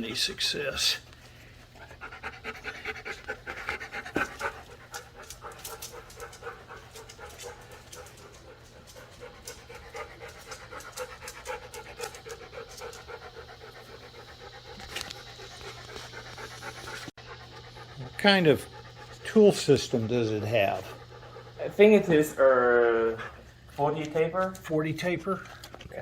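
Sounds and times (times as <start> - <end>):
dog panting: 0.0 - 24.7.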